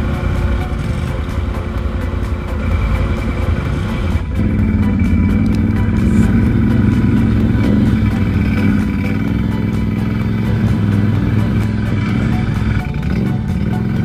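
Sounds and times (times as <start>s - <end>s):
atv engine running at low speed: 0.0s - 14.0s.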